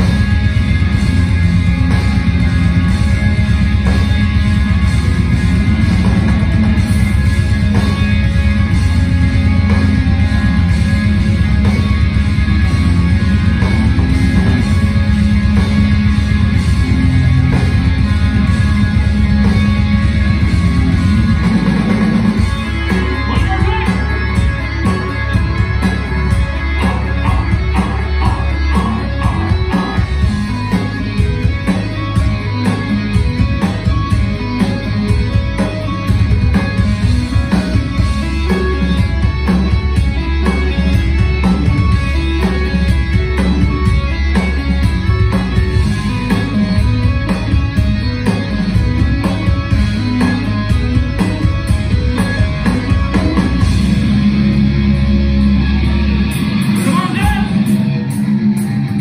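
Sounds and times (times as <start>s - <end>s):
steady drum beat: 0.0s - 54.7s
distorted electric guitars: 0.0s - 59.0s
heavy bass: 0.0s - 59.0s.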